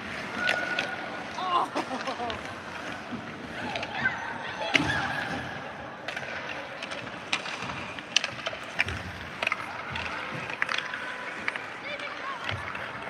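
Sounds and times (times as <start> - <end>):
skates scraping ice: 0.0 - 13.0
sticks striking pucks: 0.0 - 13.0.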